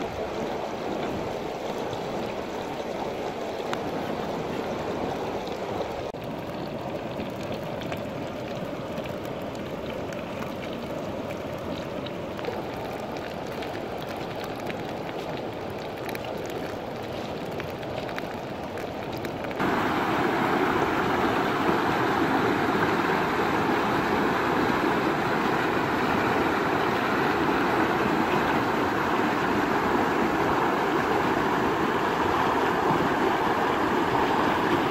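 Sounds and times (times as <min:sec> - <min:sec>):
river water rushing through rapids: 0:00.0 - 0:34.9.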